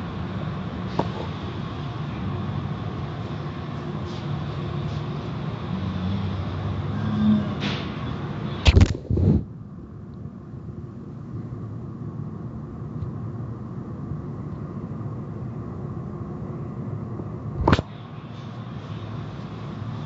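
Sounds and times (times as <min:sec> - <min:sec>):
car wash machinery rumble: 0:00.0 - 0:08.7, 0:09.4 - 0:20.0.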